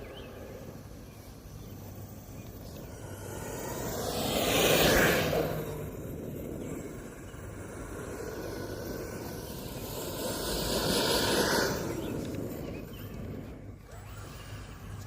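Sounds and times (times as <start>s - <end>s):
rc truck ducted fans whirring: 0.0s - 15.0s.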